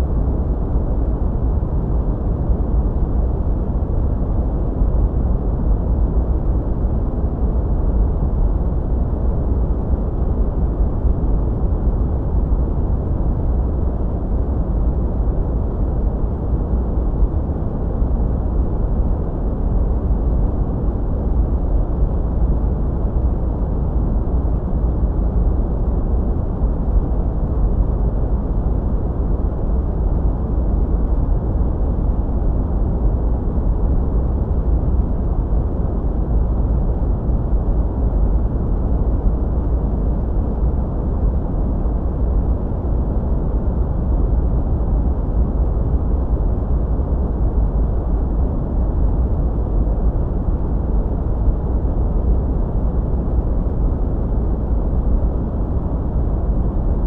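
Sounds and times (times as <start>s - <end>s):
deep muffled steady noise: 0.0s - 57.0s.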